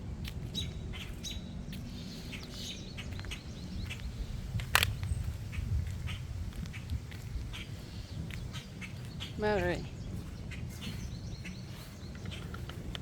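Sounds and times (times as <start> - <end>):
steady low rumble: 0.0 - 13.0
small birds chirping: 0.3 - 13.0.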